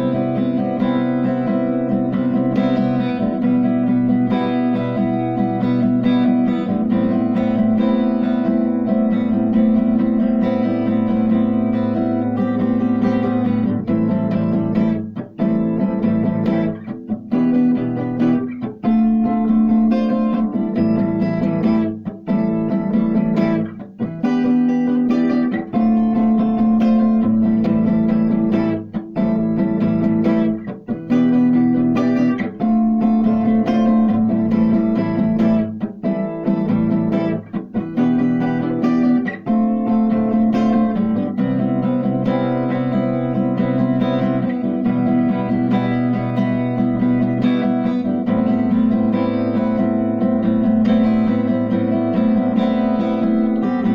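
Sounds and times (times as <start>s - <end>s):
plucked and strummed guitar: 0.0s - 53.9s.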